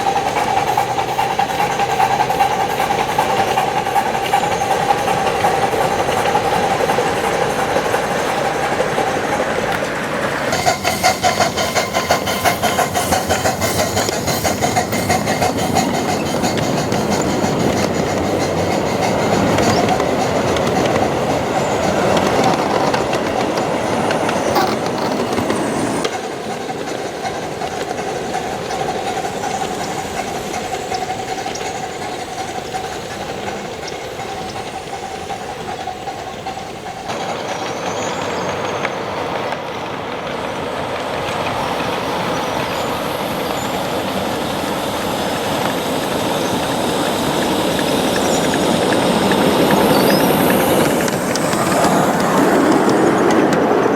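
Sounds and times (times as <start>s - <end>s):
train wheels clicking over rail joints: 0.0s - 53.9s.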